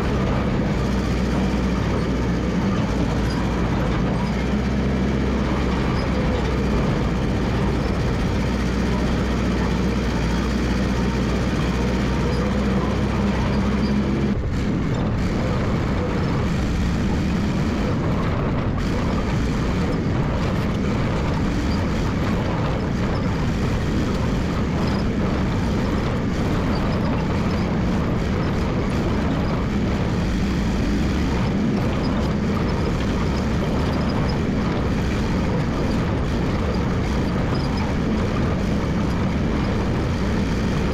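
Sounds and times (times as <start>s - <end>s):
crawler dozer engine running: 0.0s - 40.9s.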